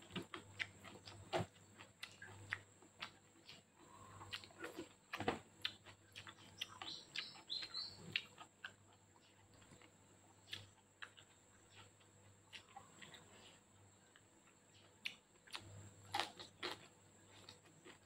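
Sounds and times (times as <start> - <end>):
mouth chewing food: 0.0 - 18.0.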